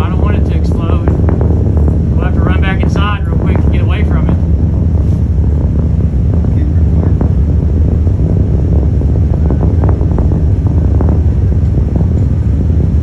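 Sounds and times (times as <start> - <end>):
distant rocket engine rumble: 0.0 - 13.0.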